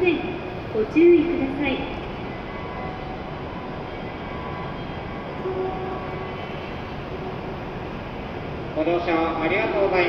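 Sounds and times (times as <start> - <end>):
faint steady tones: 0.0 - 10.0
idling train hum and hiss: 0.0 - 10.0.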